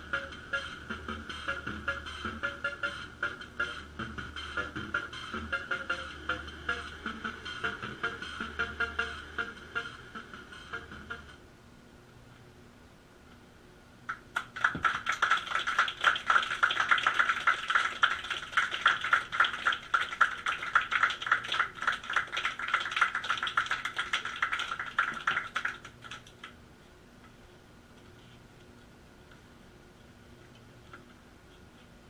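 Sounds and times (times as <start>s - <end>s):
faint hum: 0.0s - 32.0s.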